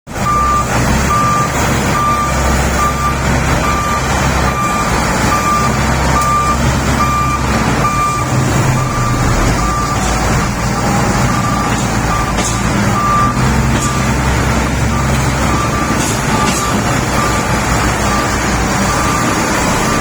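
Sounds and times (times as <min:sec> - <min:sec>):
bulldozer diesel engine running: 0:00.1 - 0:20.0
back-up alarm beeping: 0:00.2 - 0:14.1, 0:14.9 - 0:20.0.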